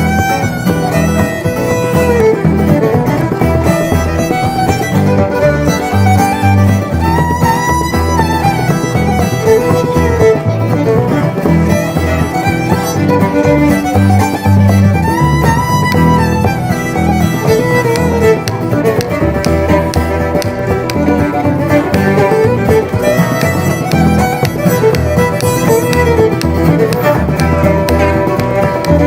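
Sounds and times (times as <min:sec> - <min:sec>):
up-tempo bluegrass fiddle tune: 0:00.0 - 0:29.0.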